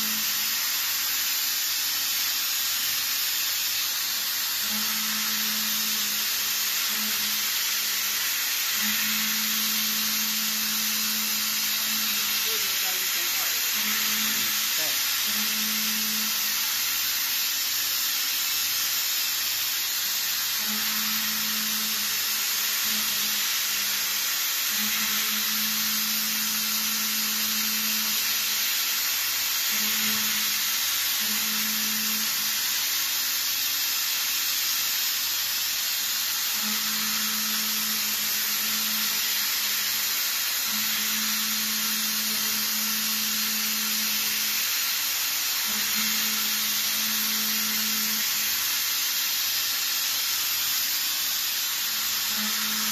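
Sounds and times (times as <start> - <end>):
coolant jet hiss: 0.0 - 52.9
milling machine cutting metal: 0.0 - 52.9.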